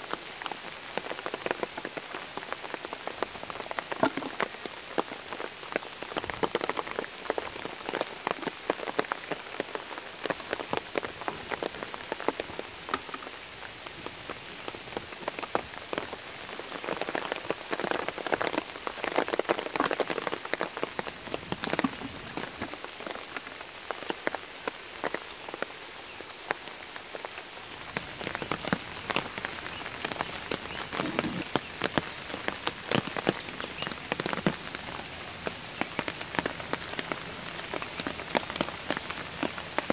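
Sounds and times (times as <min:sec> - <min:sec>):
rain falling on puddles: 0:00.0 - 0:39.9.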